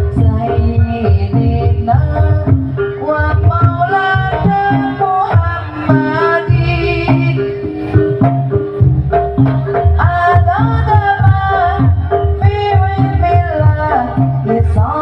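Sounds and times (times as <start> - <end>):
gliding melodic line: 0.0 - 15.0
hand drum strokes: 0.0 - 15.0.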